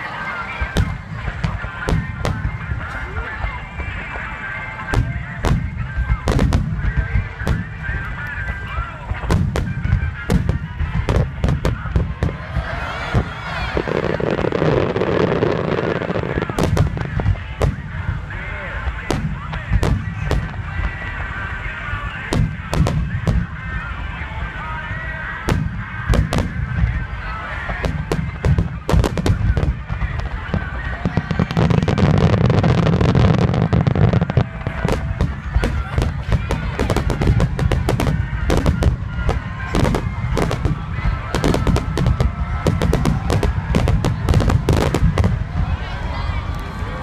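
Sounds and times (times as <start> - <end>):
fireworks bangs: 0.0 - 47.0
music: 0.0 - 47.0.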